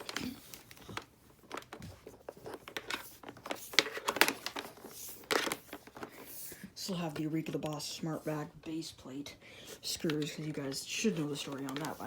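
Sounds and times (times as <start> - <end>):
objects rustling and clicking: 0.0 - 8.0, 9.8 - 12.0.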